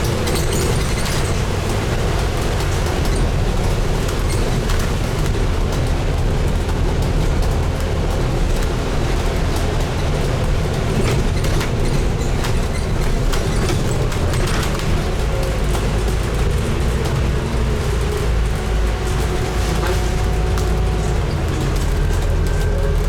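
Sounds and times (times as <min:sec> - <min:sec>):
bodywork rattles and ticks: 0:00.0 - 0:23.0
bus engine and road rumble: 0:00.0 - 0:23.0.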